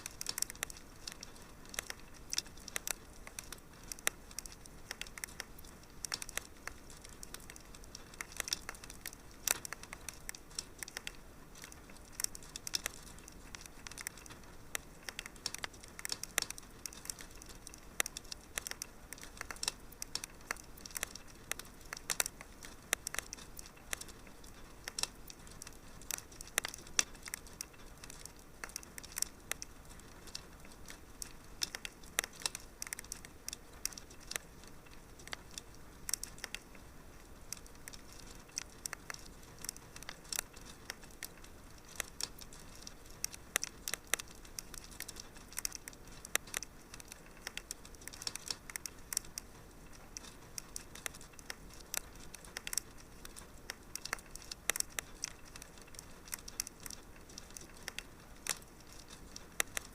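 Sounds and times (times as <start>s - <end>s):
faint fire hiss: 0.0s - 59.9s
wood fire crackling and popping: 0.0s - 59.9s.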